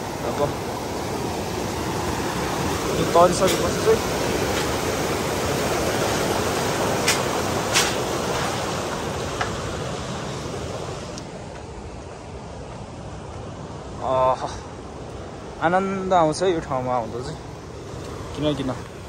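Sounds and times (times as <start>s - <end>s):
rushing mountain water: 0.0s - 19.0s.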